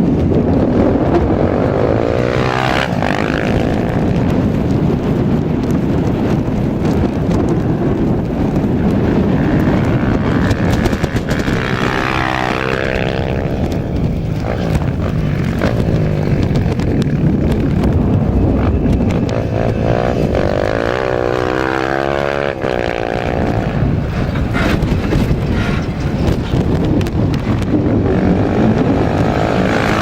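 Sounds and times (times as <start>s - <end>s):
low rumble: 0.0s - 30.0s
motorcycle engine passing at speed: 0.0s - 30.0s.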